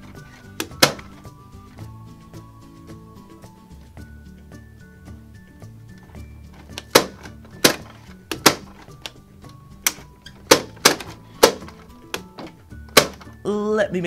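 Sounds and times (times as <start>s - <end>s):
light background music: 0.0s - 14.0s.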